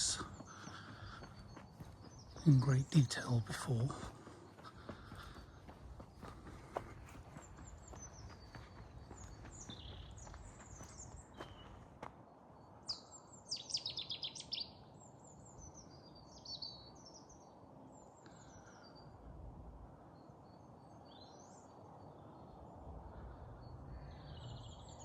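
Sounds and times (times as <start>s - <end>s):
songbirds singing and chirping: 0.0s - 25.0s.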